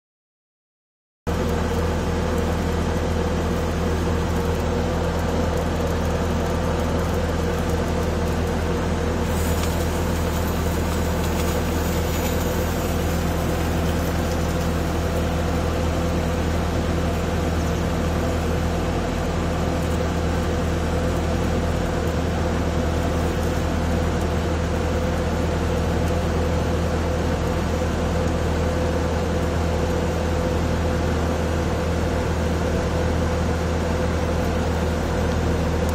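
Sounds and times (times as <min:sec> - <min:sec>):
diesel engine running: 0:01.3 - 0:35.9.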